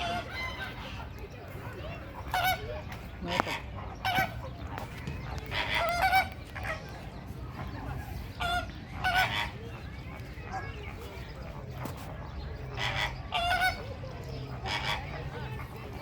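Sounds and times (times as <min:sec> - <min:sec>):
waterfowl calling: 0:00.0 - 0:09.8, 0:12.7 - 0:15.9.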